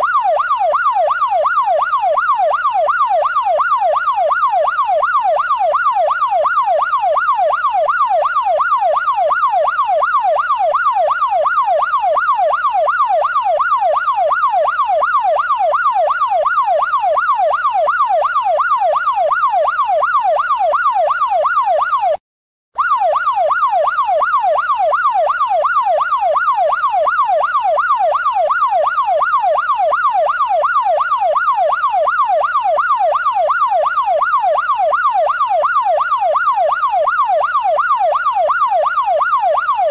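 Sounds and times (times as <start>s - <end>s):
police siren yelping: 0.0s - 22.2s, 22.8s - 39.9s.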